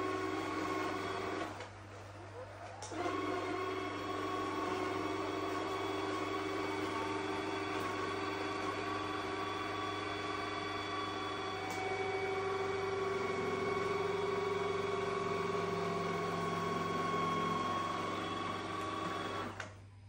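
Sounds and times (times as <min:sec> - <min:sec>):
robot vacuum motors humming: 0:00.0 - 0:20.0.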